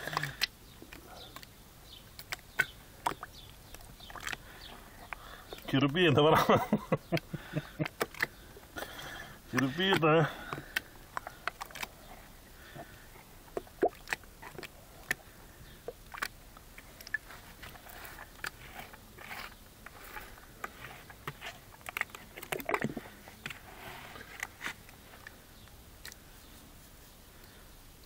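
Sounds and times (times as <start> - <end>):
hand squelching paint in bucket: 0.0 - 27.6.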